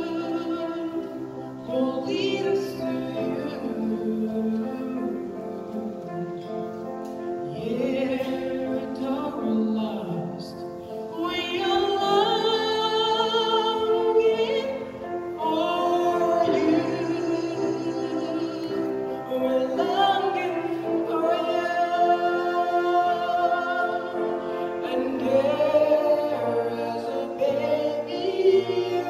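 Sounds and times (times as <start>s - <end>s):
woman singing into microphone: 0.0s - 6.6s, 7.4s - 29.0s.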